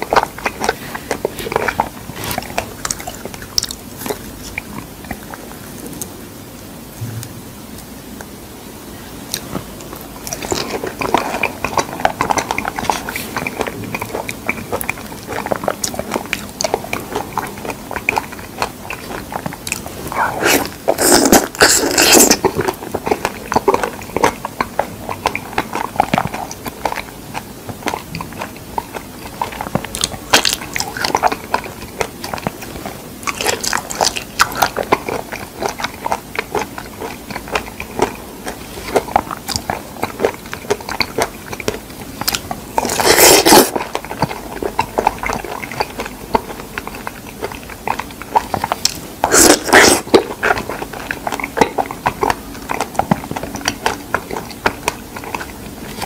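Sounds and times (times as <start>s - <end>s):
biting and chewing: 0.0s - 6.2s, 9.3s - 56.0s.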